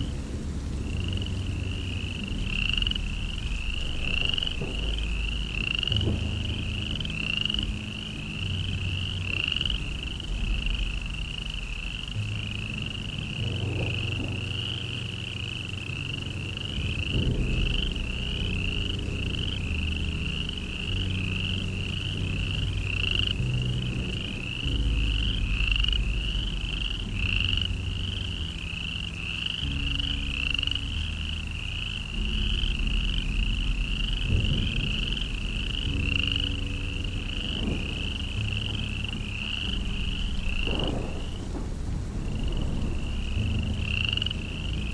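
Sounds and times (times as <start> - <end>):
low hum shifting pitch: 0.0 - 44.9.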